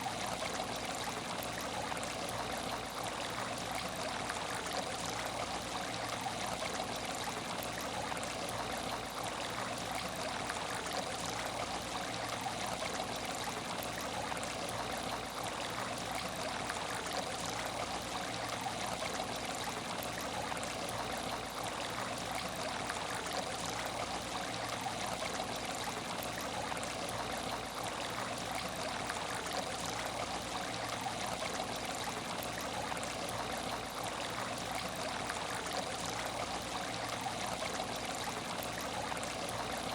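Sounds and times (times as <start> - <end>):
water running in a tank: 0.0 - 39.9.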